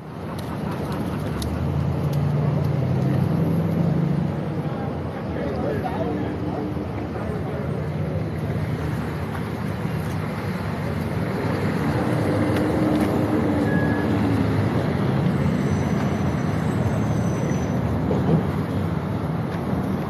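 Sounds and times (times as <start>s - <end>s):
rumble of passing vehicles: 0.0s - 20.0s.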